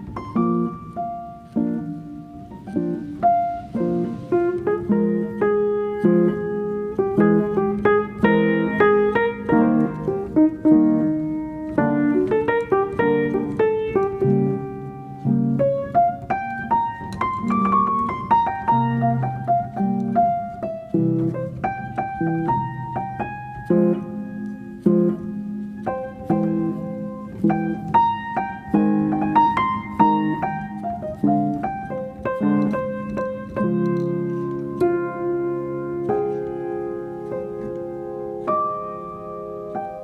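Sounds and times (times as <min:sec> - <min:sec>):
calm piano music: 0:00.0 - 0:40.0.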